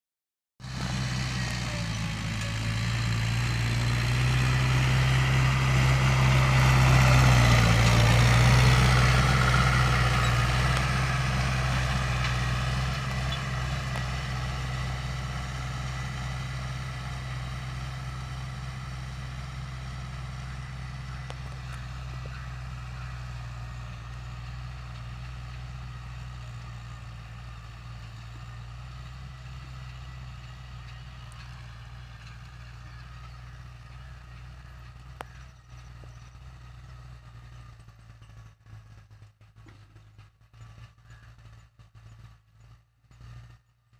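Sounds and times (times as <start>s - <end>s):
tractor diesel engine passing: 0.6s - 43.9s.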